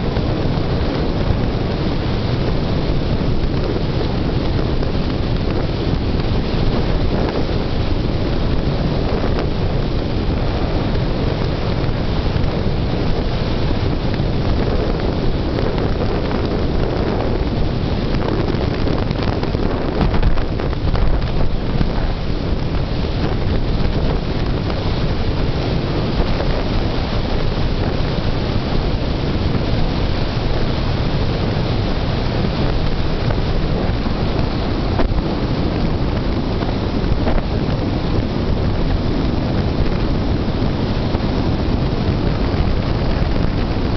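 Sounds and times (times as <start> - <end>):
heavy wind rush on microphone: 0.0 - 43.9.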